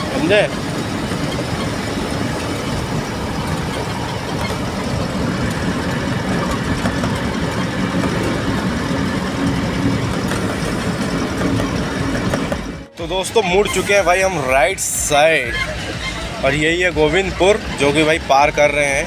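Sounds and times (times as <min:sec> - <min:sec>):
road noise: 0:00.0 - 0:19.0
truck diesel engine running: 0:00.0 - 0:19.0.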